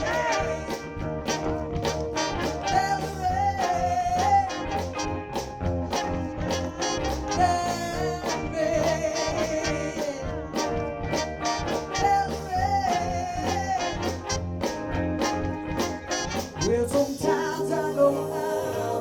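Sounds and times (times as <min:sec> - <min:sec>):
live soul band instrumental: 0:00.0 - 0:19.0
melodic lead line: 0:00.0 - 0:19.0.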